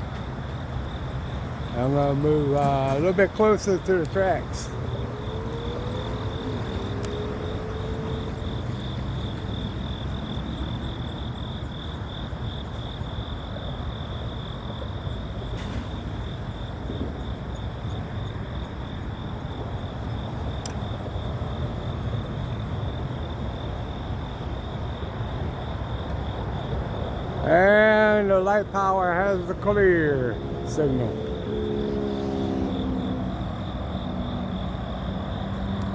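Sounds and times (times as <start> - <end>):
diesel locomotives idling: 0.0 - 31.8
insects trilling: 0.0 - 35.9.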